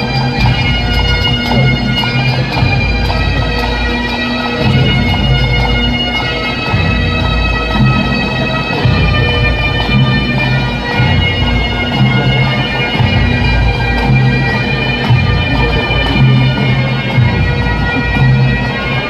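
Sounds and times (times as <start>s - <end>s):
bagpipe band playing a march: 0.0s - 19.0s.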